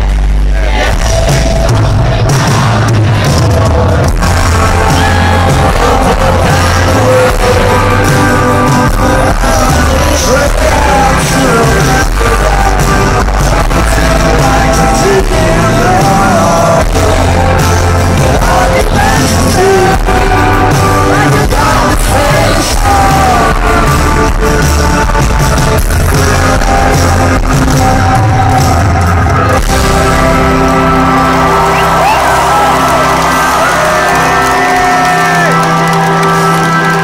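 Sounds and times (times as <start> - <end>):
live rock band playing: 0.1 - 37.0
person singing: 0.6 - 37.0
drum hits: 0.8 - 32.5.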